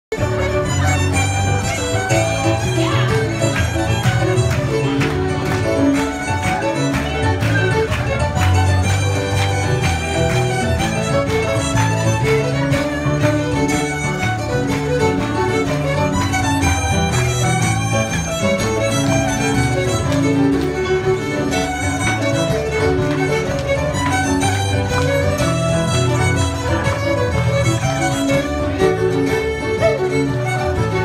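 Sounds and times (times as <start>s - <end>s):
fiddles playing a fast tune: 0.1s - 31.0s.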